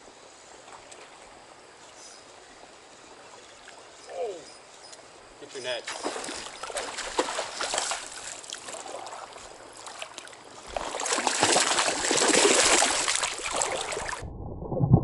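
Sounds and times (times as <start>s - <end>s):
stream water trickling: 0.0s - 14.2s.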